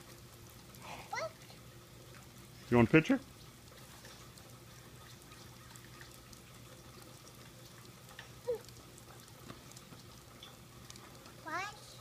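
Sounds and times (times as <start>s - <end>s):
faint drip ticks: 0.0s - 12.0s
light rain falling: 0.0s - 12.0s.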